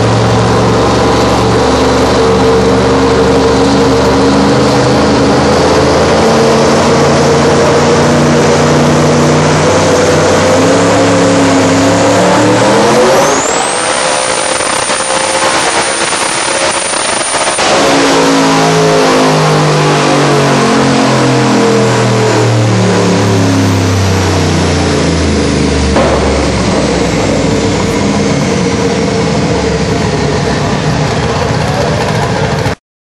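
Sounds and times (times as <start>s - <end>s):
car engine revving: 0.0s - 32.8s
thin high turbo whine: 0.0s - 32.8s.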